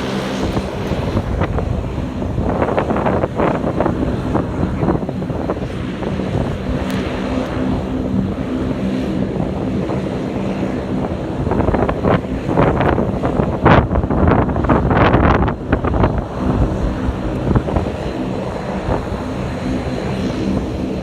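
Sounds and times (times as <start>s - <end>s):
aircraft engines droning: 0.0s - 21.0s
wind buffeting microphone: 0.0s - 21.0s.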